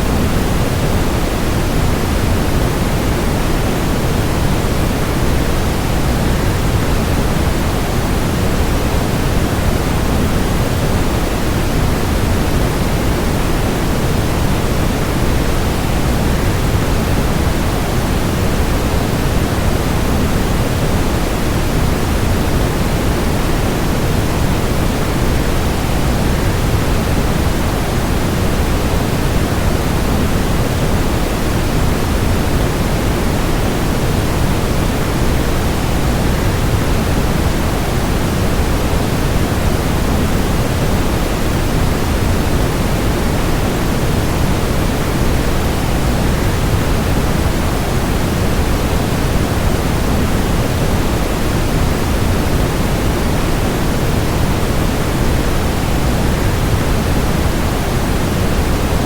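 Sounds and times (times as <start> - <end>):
white noise: 0.0 - 59.0.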